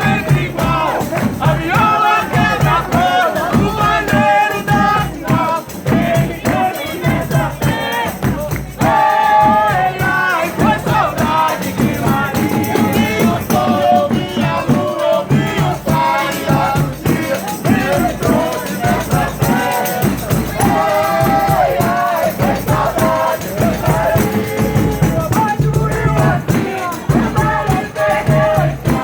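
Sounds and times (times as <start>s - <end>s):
group singing in several voices: 0.0s - 29.0s
instrumental accompaniment: 0.0s - 29.0s.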